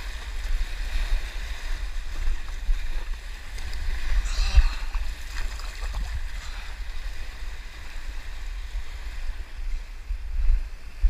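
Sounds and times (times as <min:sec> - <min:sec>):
surf washing over rocks: 0:00.0 - 0:11.0
wind buffeting microphone: 0:00.0 - 0:11.0.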